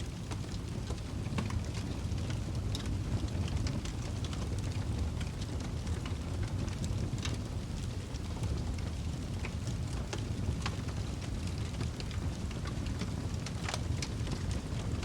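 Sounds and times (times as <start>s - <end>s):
fire burning in fireplace: 0.0s - 15.0s.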